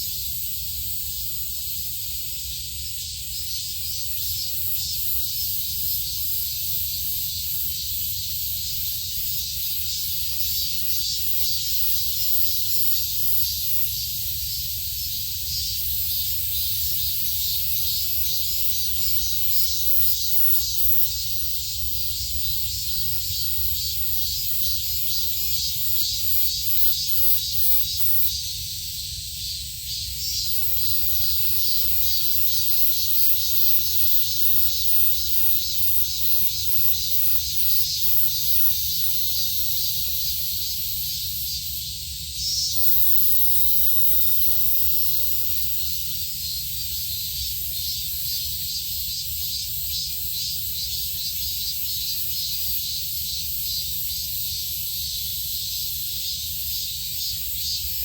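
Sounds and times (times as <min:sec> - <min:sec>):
pulsing insect chorus: 0:00.0 - 0:58.0.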